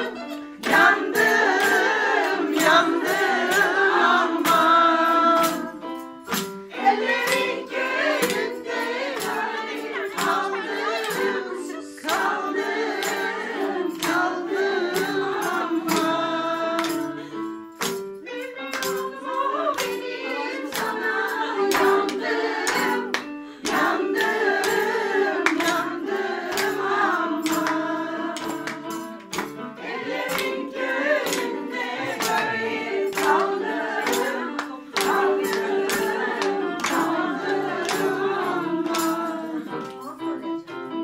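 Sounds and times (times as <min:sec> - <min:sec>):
rhythmic hand-clapping: 0:00.0 - 0:40.2
women singing together: 0:00.0 - 0:40.2.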